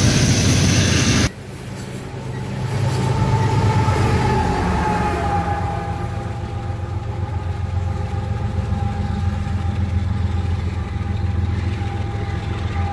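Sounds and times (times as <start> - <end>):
diesel locomotive rumble: 0.0 - 12.9.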